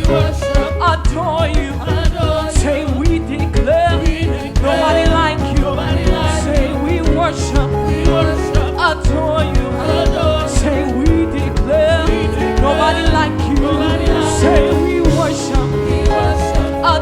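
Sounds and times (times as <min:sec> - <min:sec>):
bass: 0:00.0 - 0:17.0
people singing gospel: 0:00.0 - 0:17.0
steady drum beat: 0:00.0 - 0:17.0.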